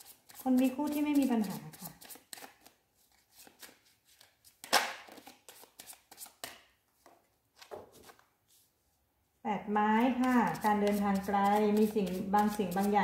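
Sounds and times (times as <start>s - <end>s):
cards being shuffled by hand: 0.0s - 8.6s, 10.0s - 13.0s.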